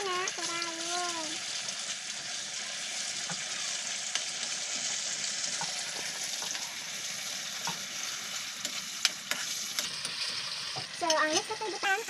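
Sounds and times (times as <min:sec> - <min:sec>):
sauce sizzling in oil: 0:00.0 - 0:12.0.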